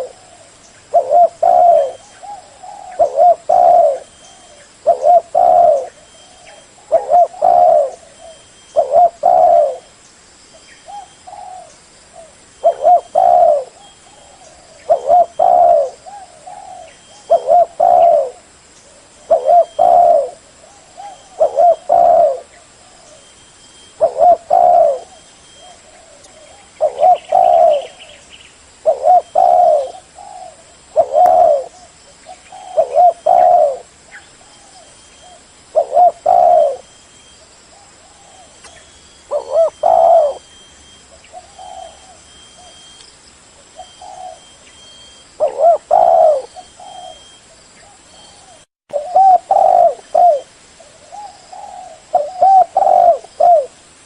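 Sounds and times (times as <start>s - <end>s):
dove cooing: 0.0s - 9.9s, 10.8s - 28.2s, 28.8s - 37.0s, 37.8s - 43.0s, 43.7s - 53.8s.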